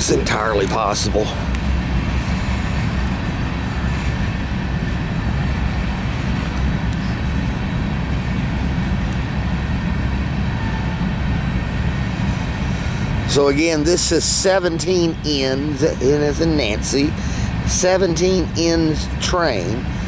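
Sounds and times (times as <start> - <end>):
freight train cars rolling on rails: 0.0 - 19.9.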